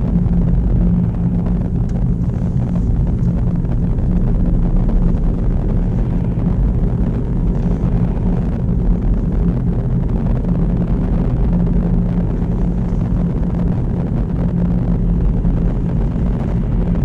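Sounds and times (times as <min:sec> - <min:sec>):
car engine hum: 0:00.0 - 0:17.0
road rumble: 0:00.0 - 0:17.0.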